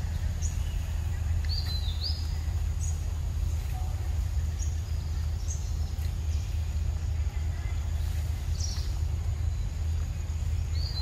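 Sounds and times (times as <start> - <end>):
steady low rumble: 0.0 - 11.0
wild birds chirping: 0.0 - 11.0.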